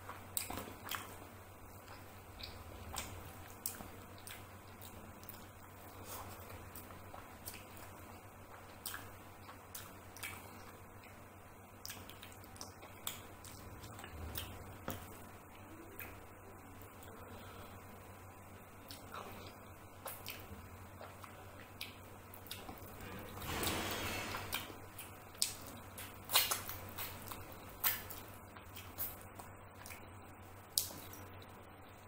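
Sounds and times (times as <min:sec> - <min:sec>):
chewing and wet mouth sounds: 0:00.0 - 0:17.9, 0:18.6 - 0:23.4, 0:24.5 - 0:31.7.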